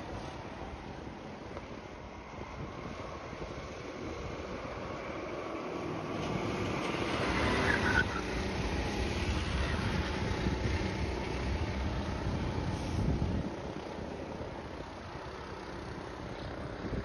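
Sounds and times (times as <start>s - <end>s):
go-kart engines running: 0.0s - 17.0s
go-kart passing: 2.2s - 17.0s.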